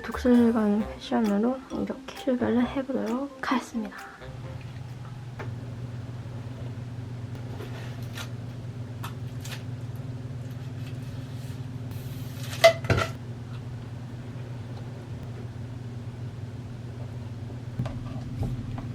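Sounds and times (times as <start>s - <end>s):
low mechanical hum: 0.0s - 18.9s.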